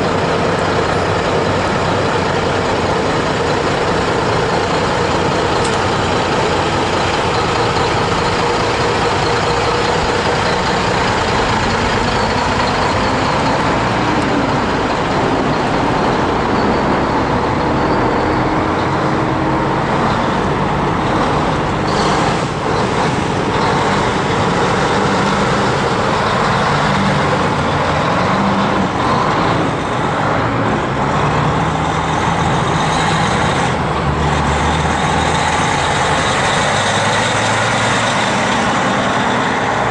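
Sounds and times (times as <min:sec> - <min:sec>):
heavy truck diesel engines: 0:00.0 - 0:39.9.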